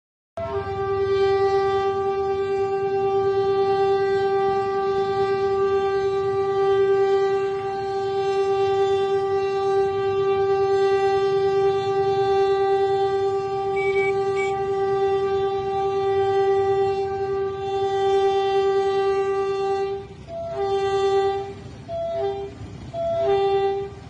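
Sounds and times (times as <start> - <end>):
locomotive horn blast: 0.4 - 24.0
motorcycle engines: 0.4 - 24.0
road traffic rumble: 0.4 - 24.0.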